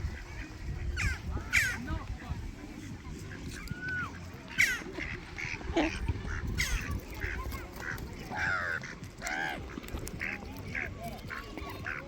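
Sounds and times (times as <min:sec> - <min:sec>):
flock of birds squawking: 0:00.0 - 0:02.1, 0:02.7 - 0:12.0.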